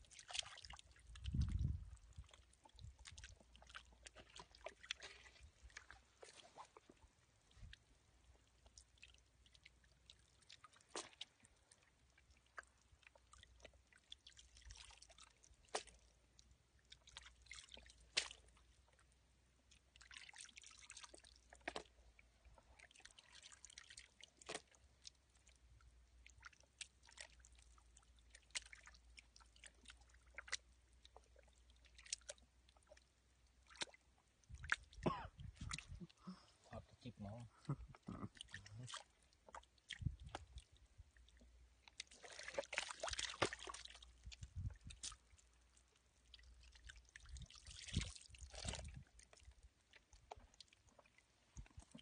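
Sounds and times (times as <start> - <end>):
hands squelching through wet mud: 0.0 - 16.2, 16.8 - 19.0, 19.6 - 52.0.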